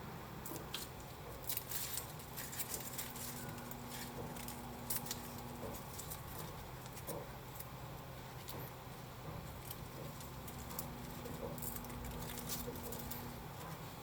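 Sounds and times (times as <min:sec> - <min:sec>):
cat chewing leaves: 0:00.4 - 0:14.0.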